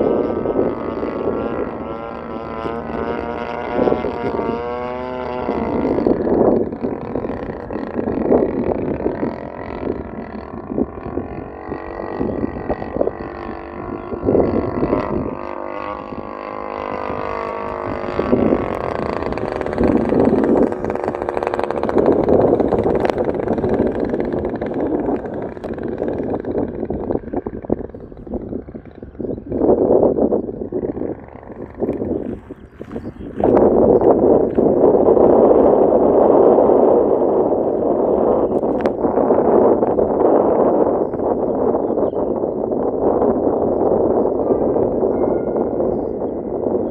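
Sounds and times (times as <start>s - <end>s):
model airplane engines buzzing: 0.0s - 46.9s.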